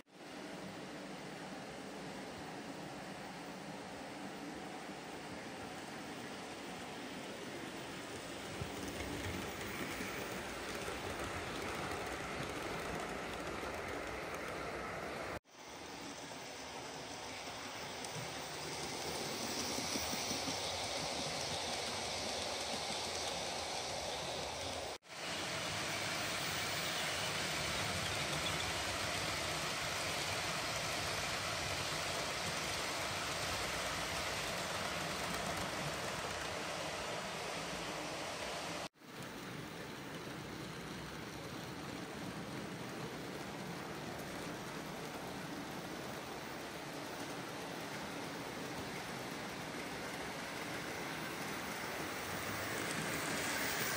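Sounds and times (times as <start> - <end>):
model train wheels rumbling: 6.1 - 53.9.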